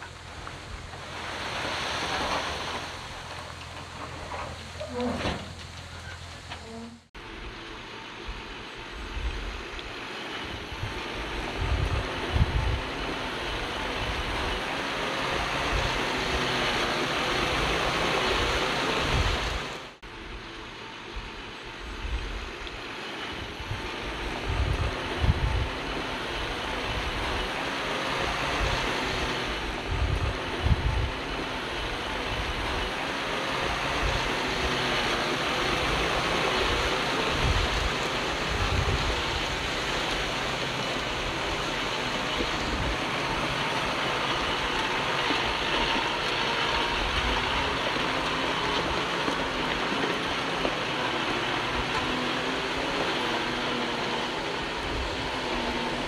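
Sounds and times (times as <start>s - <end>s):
bulldozer diesel engine rumbling: 0.0s - 56.0s.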